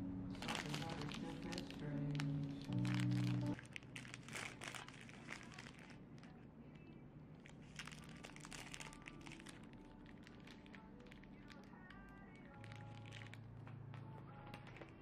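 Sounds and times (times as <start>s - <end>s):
plastic wrapper crinkling: 0.3s - 13.6s.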